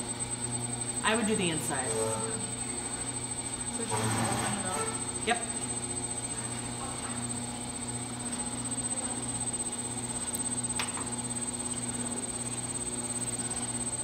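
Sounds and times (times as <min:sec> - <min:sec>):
potter's wheel motor humming: 0:00.0 - 0:14.0.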